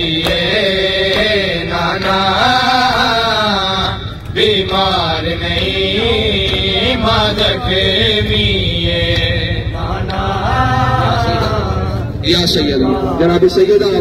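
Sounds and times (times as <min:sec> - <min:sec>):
men chanting a lament: 0:00.0 - 0:14.0.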